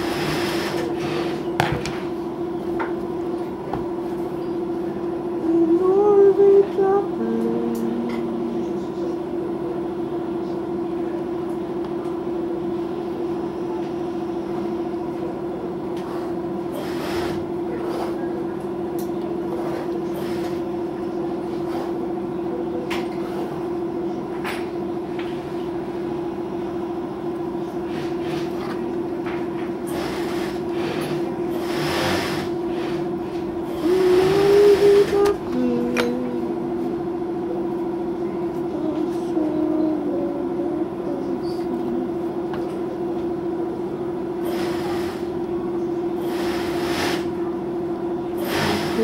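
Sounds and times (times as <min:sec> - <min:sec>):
electric machine hum: 0:00.0 - 0:49.0.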